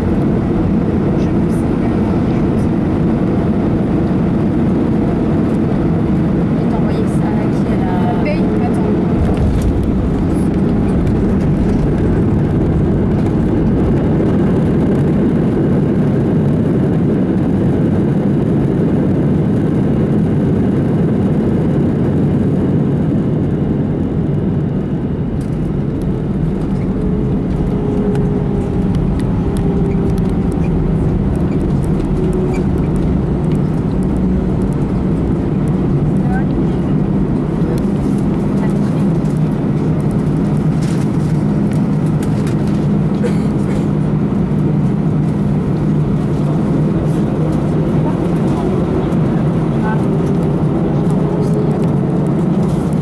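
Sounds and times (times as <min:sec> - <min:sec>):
aircraft cabin rumble on runway: 0:00.0 - 0:53.0.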